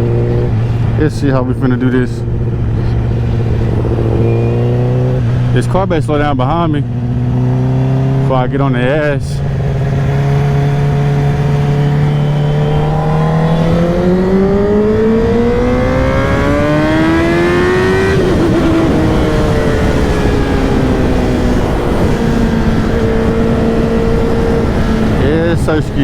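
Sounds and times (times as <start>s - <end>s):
motorcycle engine revving: 0.0s - 26.0s
wind and road noise: 0.0s - 26.0s.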